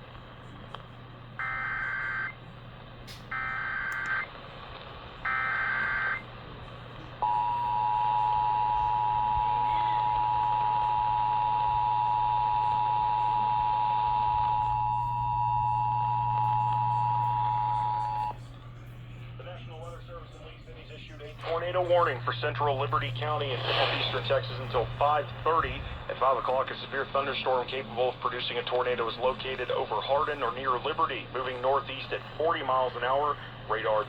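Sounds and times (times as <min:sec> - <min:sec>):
low hum: 0:03.2 - 0:34.0.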